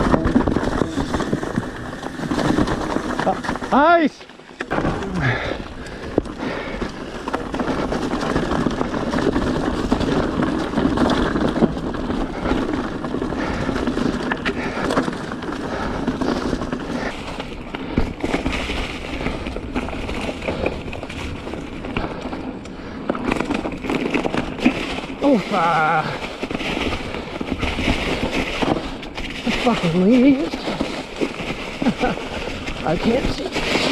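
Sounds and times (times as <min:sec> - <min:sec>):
bike rattling over rocks: 0:00.0 - 0:33.9.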